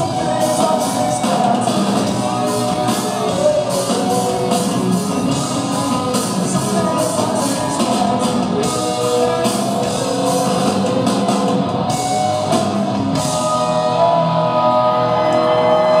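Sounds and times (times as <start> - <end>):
hard rock band playing: 0.0 - 16.0
person singing: 0.0 - 16.0.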